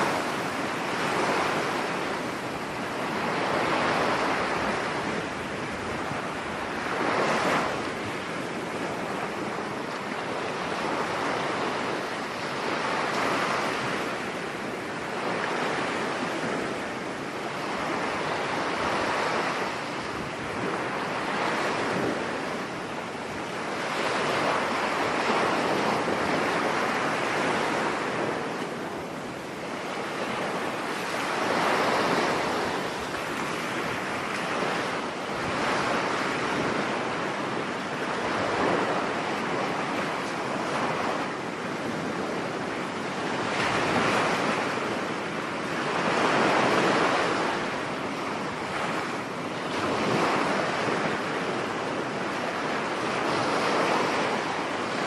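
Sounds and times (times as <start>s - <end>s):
rough sea surf breaking: 0.0s - 55.0s.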